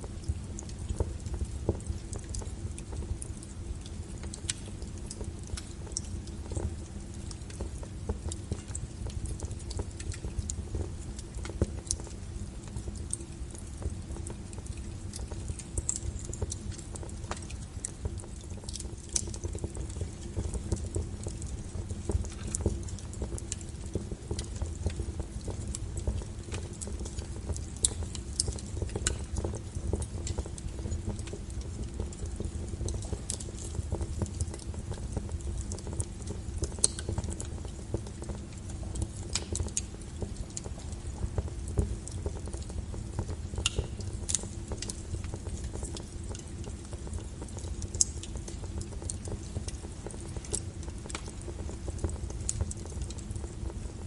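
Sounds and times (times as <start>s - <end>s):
fire low rumble: 0.0s - 54.0s
logs crackling and popping: 0.0s - 54.0s.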